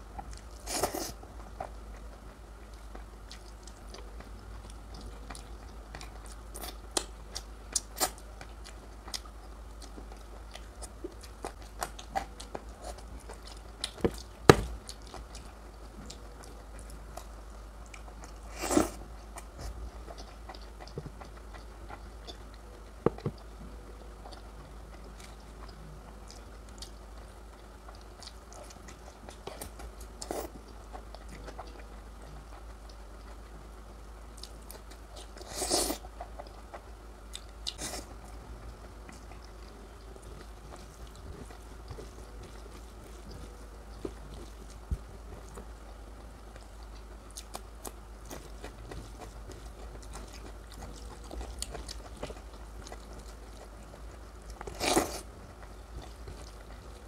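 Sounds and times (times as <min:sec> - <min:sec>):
person chewing food: 0:00.0 - 0:33.6, 0:34.3 - 0:57.0
steady low hum: 0:00.0 - 0:57.0.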